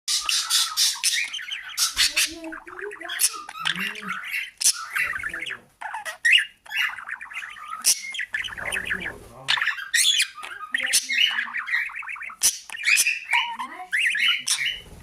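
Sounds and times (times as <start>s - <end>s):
parrot chattering and squawking: 0.1s - 15.0s.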